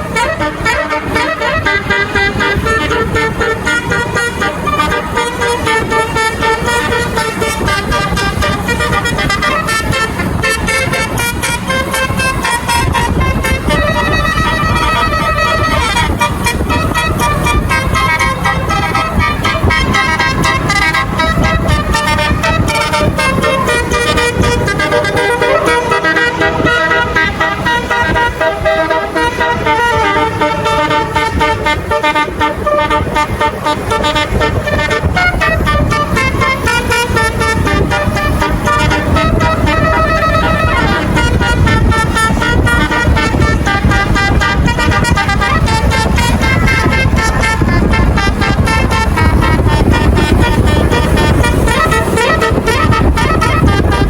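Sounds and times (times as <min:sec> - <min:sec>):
engine and traffic rumble: 0:00.0 - 0:54.0
multi-tone bus horn melody: 0:00.0 - 0:54.0.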